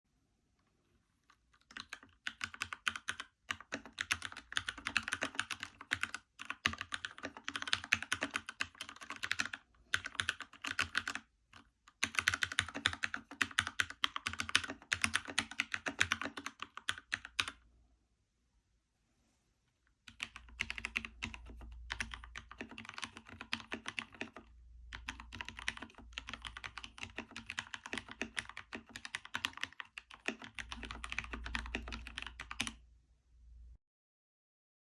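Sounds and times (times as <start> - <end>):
mechanical keyboard typing: 1.2 - 17.6, 20.1 - 32.8.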